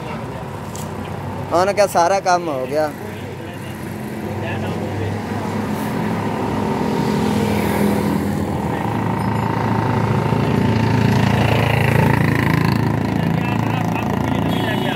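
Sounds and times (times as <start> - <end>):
engine running steadily: 2.3 - 14.9.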